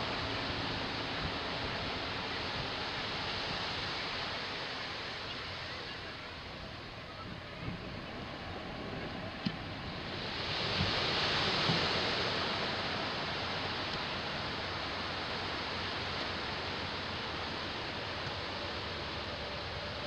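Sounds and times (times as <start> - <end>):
ocean surf washing: 0.0 - 20.0.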